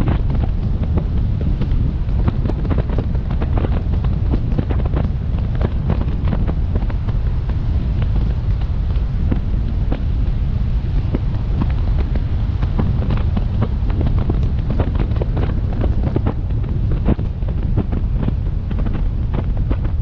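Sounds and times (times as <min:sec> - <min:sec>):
raindrops tapping on camera: 0:00.0 - 0:20.0
wind buffeting microphone: 0:00.0 - 0:20.0.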